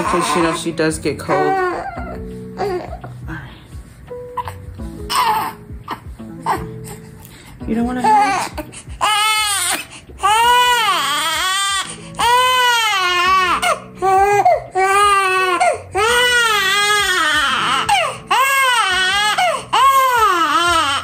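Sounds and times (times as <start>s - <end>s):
baby crying: 0.0s - 3.3s, 4.3s - 7.2s, 7.9s - 21.0s.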